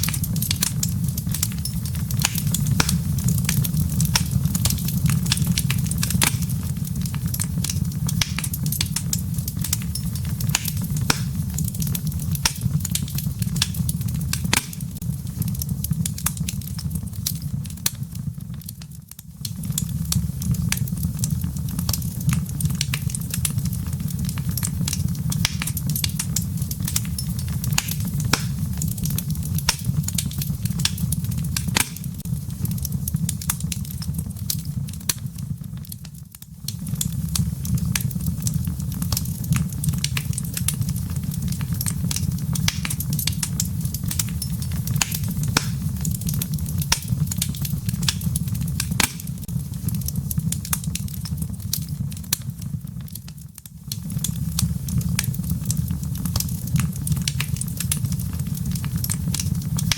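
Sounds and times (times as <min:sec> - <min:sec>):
embers popping and snapping: 0:00.0 - 0:59.9
wood fire crackling: 0:00.0 - 0:59.9.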